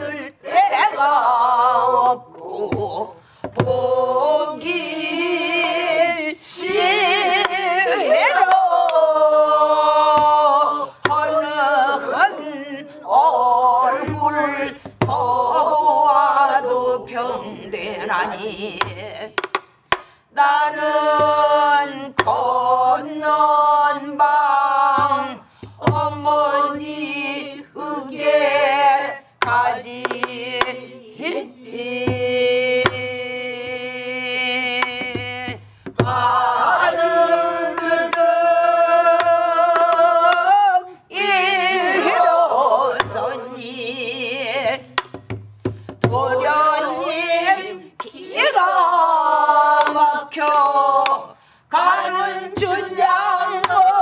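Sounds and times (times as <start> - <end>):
group singing with vibrato: 0.0 - 54.0.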